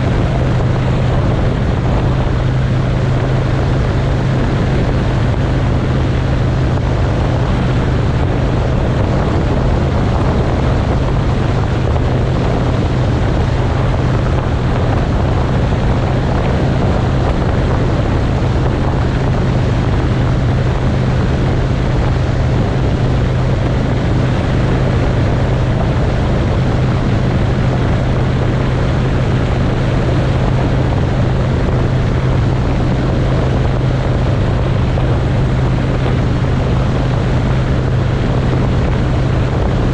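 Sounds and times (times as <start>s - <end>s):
motorcycle engine droning: 0.0s - 39.9s
wind rushing over microphone: 0.0s - 39.9s.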